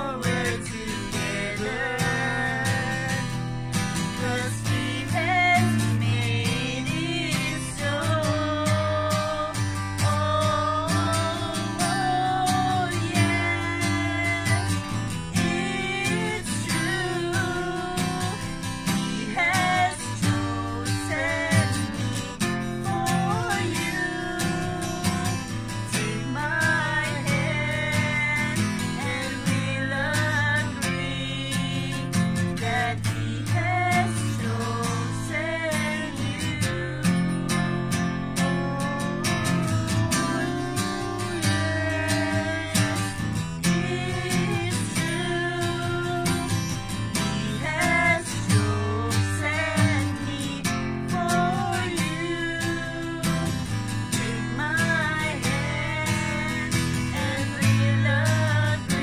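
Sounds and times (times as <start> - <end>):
man and woman singing: 0.0 - 59.0
strummed acoustic guitar: 0.0 - 59.0.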